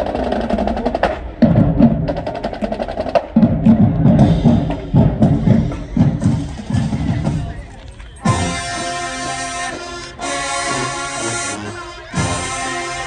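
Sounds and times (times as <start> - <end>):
marching drum beats: 0.0 - 13.0.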